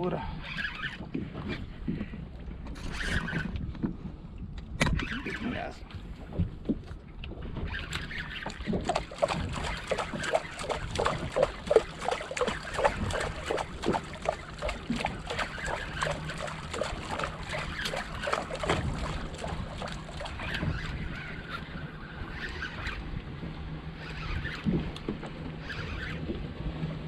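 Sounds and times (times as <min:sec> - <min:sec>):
water slapping against a boat hull: 0:00.8 - 0:26.8.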